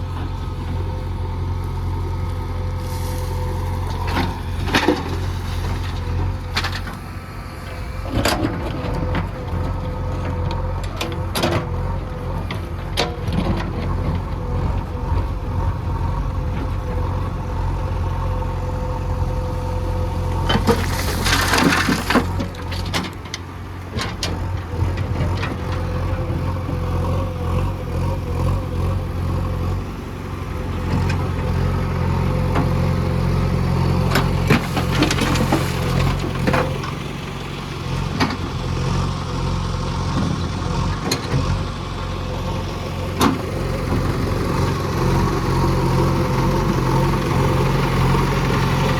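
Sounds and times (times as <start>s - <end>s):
diesel machinery engine running: 0.0s - 48.9s.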